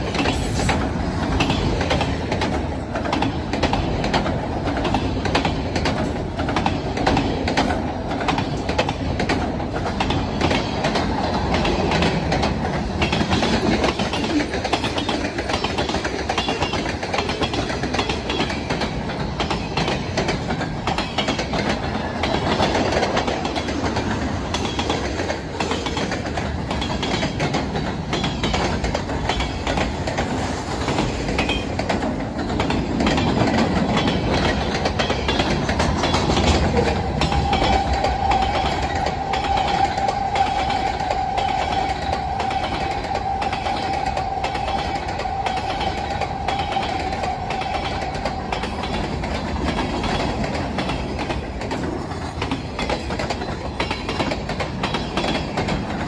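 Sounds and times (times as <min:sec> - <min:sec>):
wheels clacking over rails: 0:00.0 - 0:56.0.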